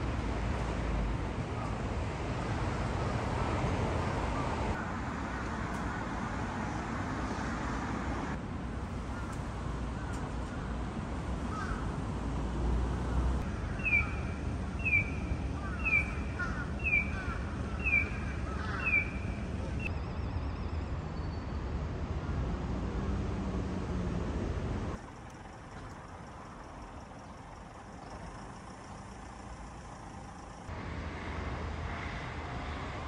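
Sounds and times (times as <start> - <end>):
city street noise: 0.0 - 33.0.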